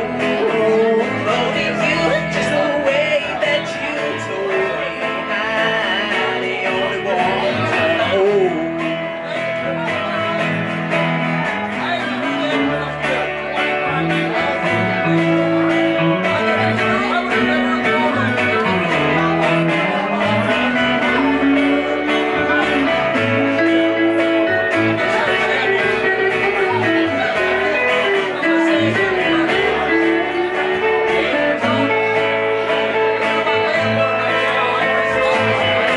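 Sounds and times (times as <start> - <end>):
electric guitar: 0.0 - 35.9
strummed acoustic guitar: 0.0 - 35.9
upright double bass line: 0.0 - 35.9.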